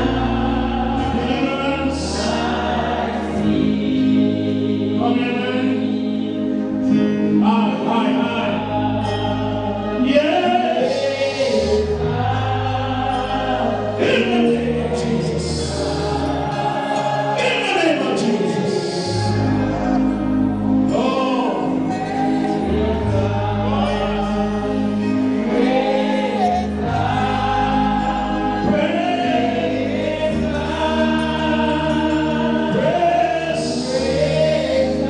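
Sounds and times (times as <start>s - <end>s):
church choir gospel singing: 0.0s - 35.0s.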